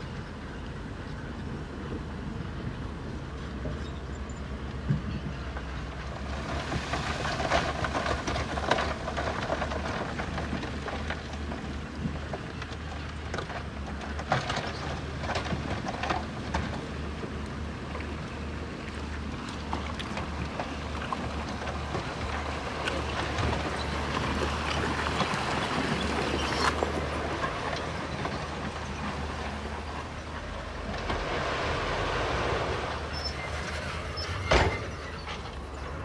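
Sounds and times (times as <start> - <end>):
diesel machine rumbling: 0.0 - 36.0
rocks clattering and grinding: 6.1 - 36.0.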